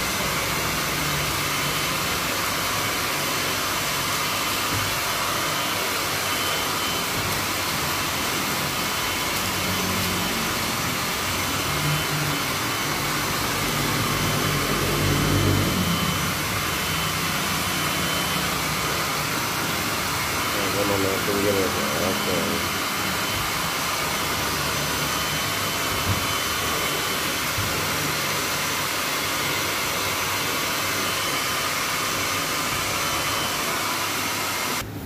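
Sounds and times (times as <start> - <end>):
blower rushing air: 0.0 - 35.0.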